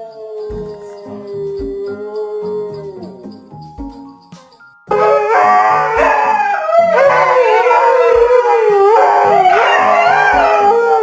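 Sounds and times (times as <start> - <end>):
dog howling: 0.0 - 3.3, 4.9 - 11.0
background music with bass: 0.4 - 11.0.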